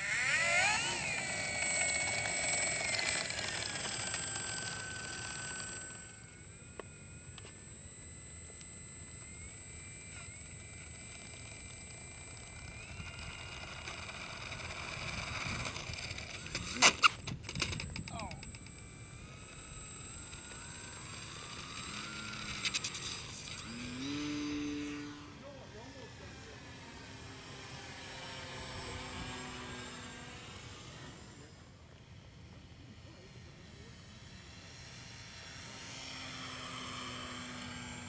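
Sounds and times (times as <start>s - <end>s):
electric motor whining: 0.0s - 31.7s, 33.2s - 38.0s.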